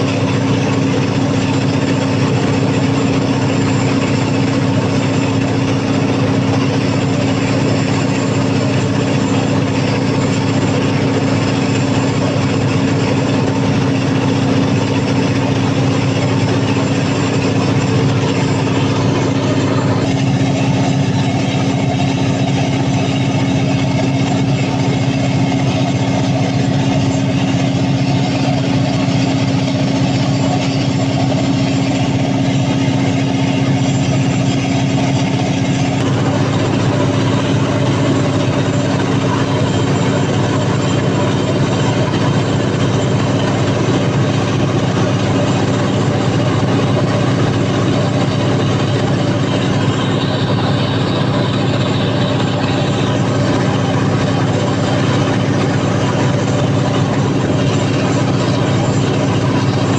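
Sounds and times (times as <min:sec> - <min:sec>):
diesel generator running under load: 0:00.0 - 0:59.9.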